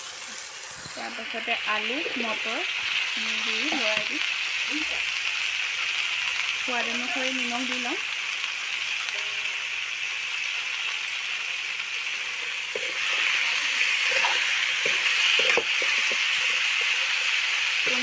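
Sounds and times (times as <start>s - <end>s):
curry sizzling in a pan: 0.0s - 18.0s.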